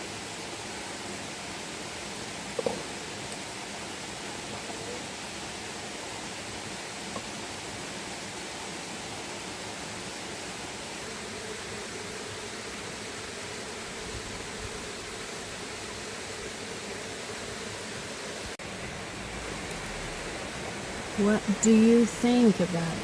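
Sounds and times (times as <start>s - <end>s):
river flowing: 0.4s - 23.0s.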